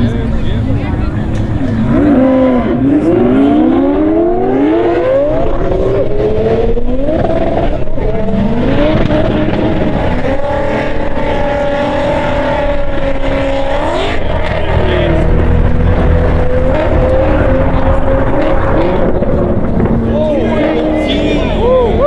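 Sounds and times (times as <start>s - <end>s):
sports car accelerating: 0.0s - 22.0s.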